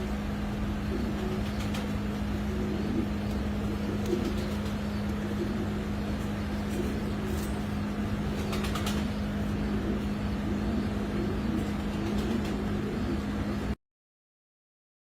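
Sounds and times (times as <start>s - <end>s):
pigeons cooing: 0.0s - 13.8s
steady low hum: 0.0s - 13.8s.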